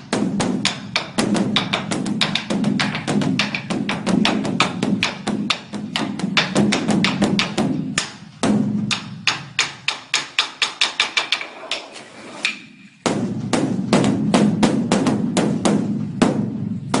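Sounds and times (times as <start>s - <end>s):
temple drum beaten with sticks: 0.0s - 11.4s, 13.0s - 17.0s.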